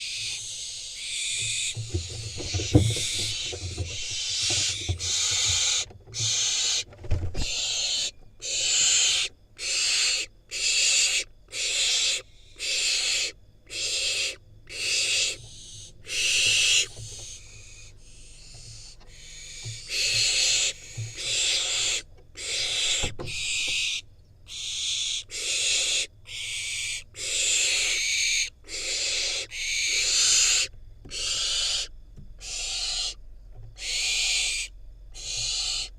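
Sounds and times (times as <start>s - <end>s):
owl chick rasping screeches: 0.0s - 33.2s, 33.8s - 35.9s.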